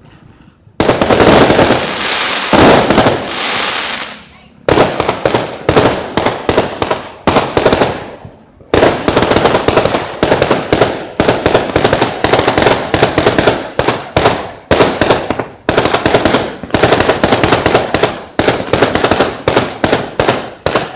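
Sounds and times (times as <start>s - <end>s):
fireworks bangs: 0.0s - 20.9s.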